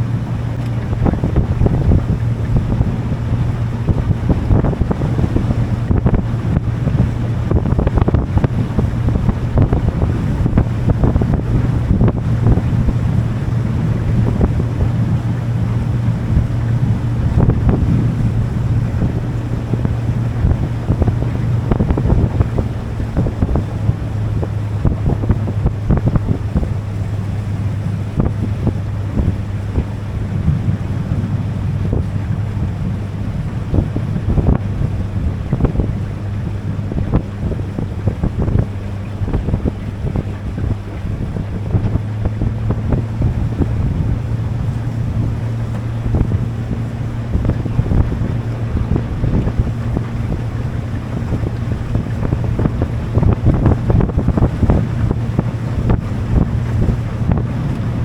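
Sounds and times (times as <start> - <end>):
boat motor droning: 0.0 - 58.0
wind buffeting microphone: 0.0 - 58.0.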